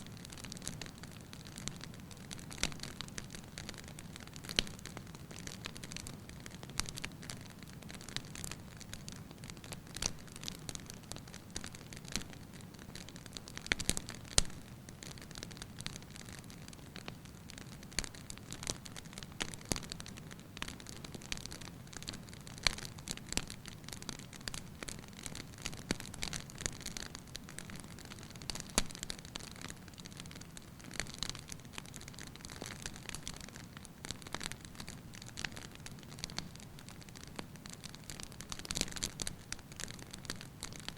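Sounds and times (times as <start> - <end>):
fire burning: 0.0 - 40.9
fire crackles and pops: 0.0 - 40.9.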